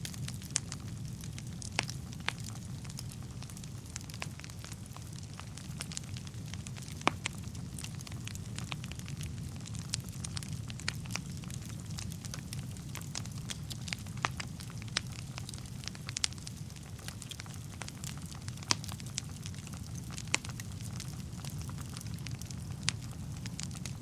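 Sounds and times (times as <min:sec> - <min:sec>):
logs crackling and popping: 0:00.0 - 0:24.0
low rumble of flames: 0:00.0 - 0:24.0.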